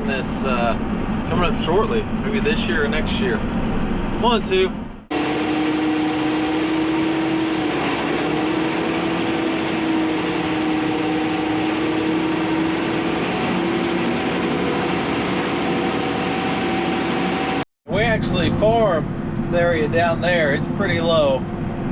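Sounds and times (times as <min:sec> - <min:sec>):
engine whine: 0:00.0 - 0:21.9
tractor engine drone: 0:00.0 - 0:21.9.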